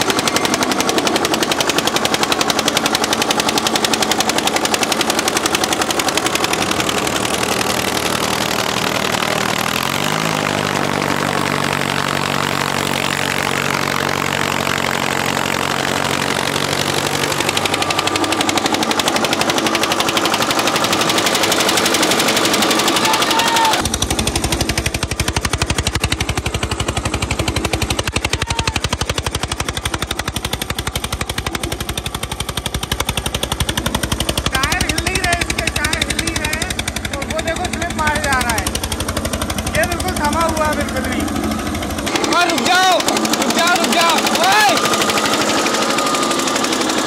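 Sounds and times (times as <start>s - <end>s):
tractor diesel engine knocking: 0.0s - 47.0s.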